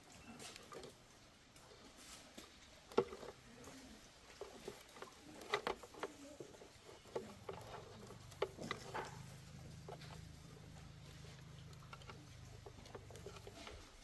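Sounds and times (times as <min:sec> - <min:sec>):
small parts and tools clicking: 0:02.4 - 0:14.0.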